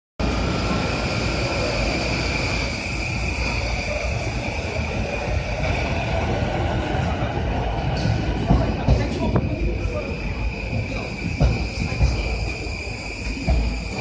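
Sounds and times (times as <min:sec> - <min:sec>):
train wheels rumbling on rail: 0:00.2 - 0:14.0.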